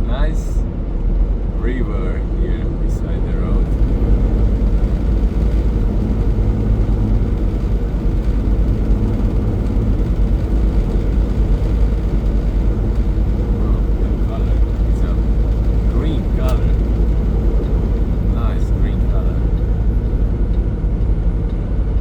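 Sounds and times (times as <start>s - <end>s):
truck engine and road drone: 0.0s - 22.0s.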